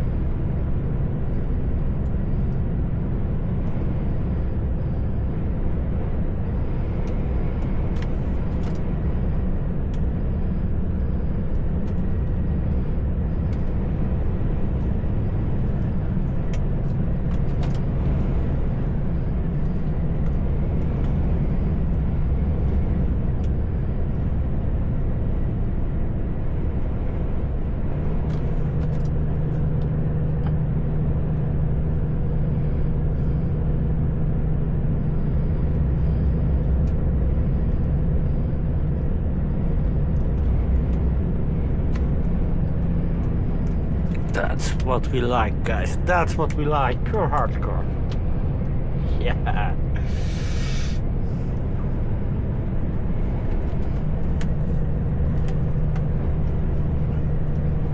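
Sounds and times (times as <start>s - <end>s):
road noise: 0.0s - 57.9s.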